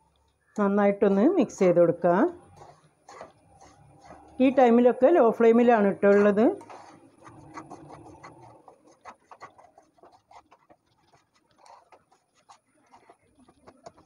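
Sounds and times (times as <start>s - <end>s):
wooden spatula scraping a pan: 2.3s - 14.0s.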